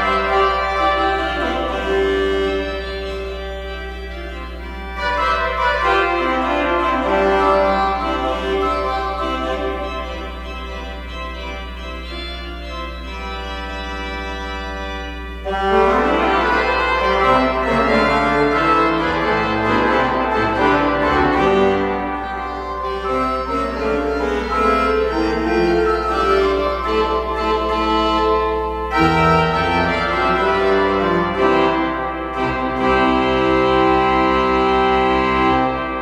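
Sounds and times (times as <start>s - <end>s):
church organ playing chords: 0.0s - 36.0s.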